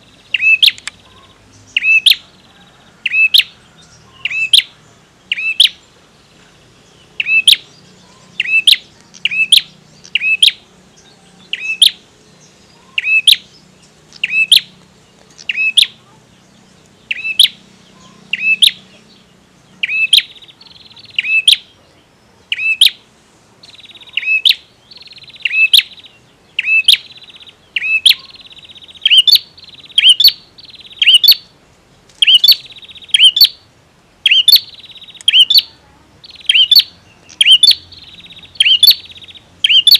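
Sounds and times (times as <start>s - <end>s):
bird chirping sharply: 0.0s - 5.9s, 6.7s - 14.8s, 15.4s - 21.8s, 22.4s - 23.0s, 23.6s - 31.5s, 32.2s - 33.6s, 34.2s - 39.9s.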